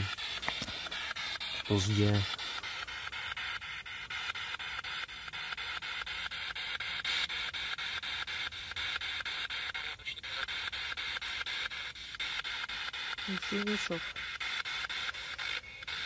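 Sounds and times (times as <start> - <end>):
radio static hiss: 0.0 - 16.0
scanner clicks: 0.0 - 16.0.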